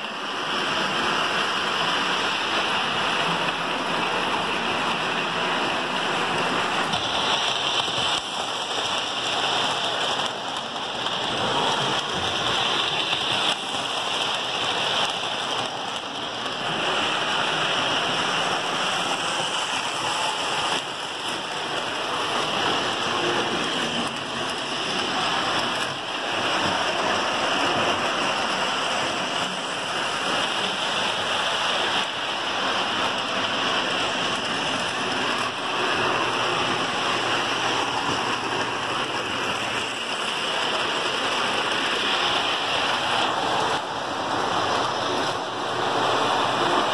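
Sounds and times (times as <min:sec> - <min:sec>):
toy train wheels rumbling on rails: 0:00.2 - 0:46.9.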